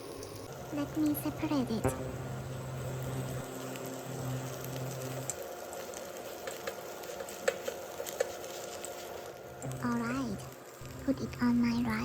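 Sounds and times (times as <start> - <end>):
omelette sizzling in a pan: 0.0 - 12.0
steady low hum: 0.0 - 12.0.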